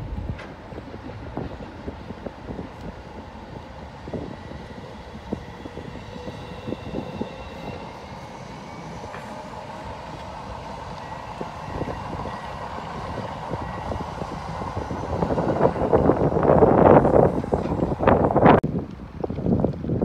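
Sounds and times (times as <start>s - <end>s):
train clacks: 0.0s - 20.0s
train rumbling over bridge: 0.0s - 20.0s
wind buffeting microphone: 0.0s - 20.0s.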